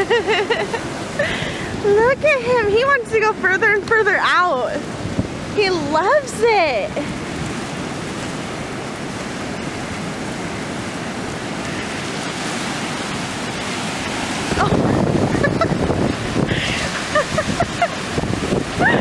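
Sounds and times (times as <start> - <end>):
ocean surf washing up: 0.0 - 19.0
wind buffeting microphone: 0.0 - 19.0.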